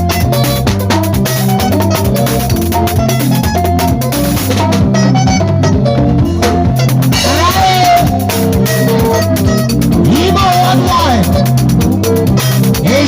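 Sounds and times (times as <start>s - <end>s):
music with drums and bass: 0.0s - 13.0s.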